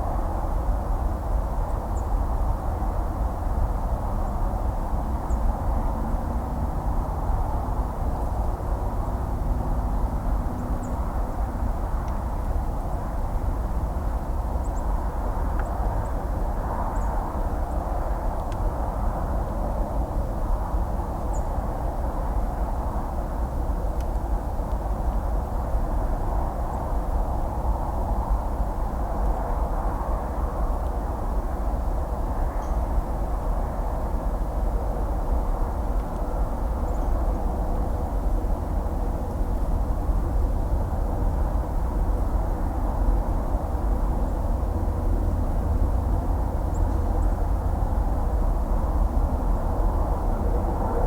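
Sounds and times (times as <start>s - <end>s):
distant highway traffic: 0.0s - 51.0s.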